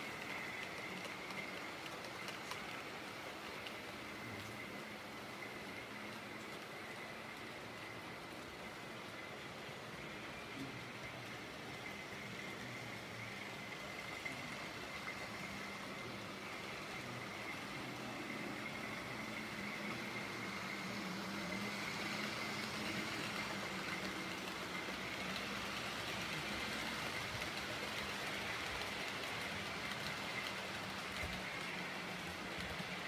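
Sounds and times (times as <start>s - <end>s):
model train whirring: 0.0s - 33.0s.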